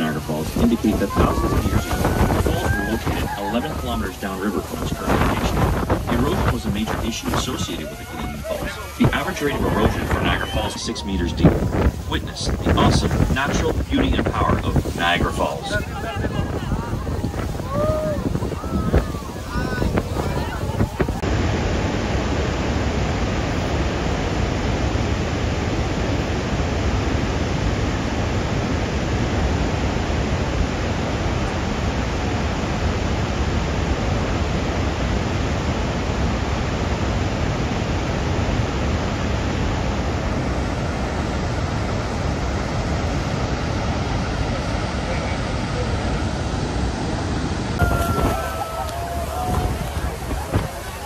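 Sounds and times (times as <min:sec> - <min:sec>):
churning water: 0:00.0 - 0:51.0
waterfall roaring: 0:00.0 - 0:51.0.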